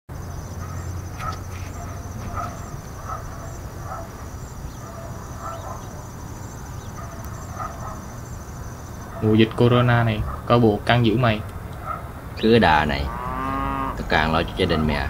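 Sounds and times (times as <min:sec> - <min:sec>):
insects trilling: 0:00.1 - 0:15.0.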